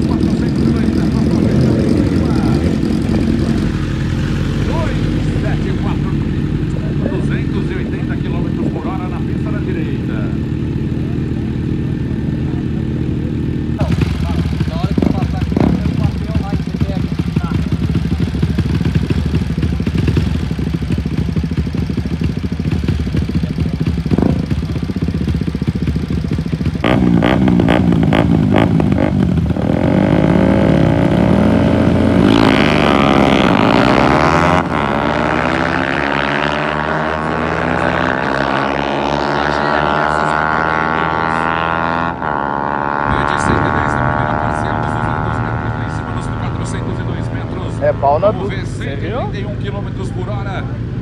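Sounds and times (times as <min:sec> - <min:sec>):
drag racing engine: 0:00.0 - 0:51.0.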